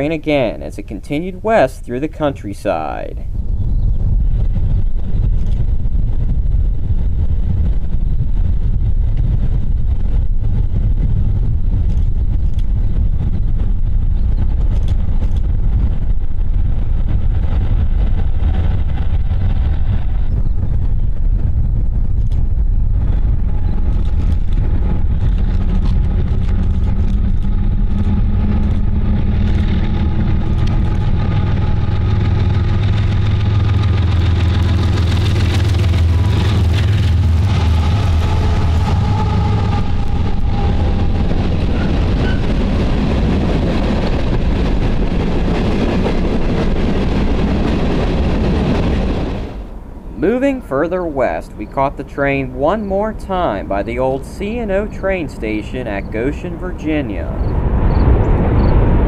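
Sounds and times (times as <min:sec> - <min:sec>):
locomotive engine drone: 0:00.0 - 0:59.0
wind rumbling on microphone: 0:00.0 - 0:59.0.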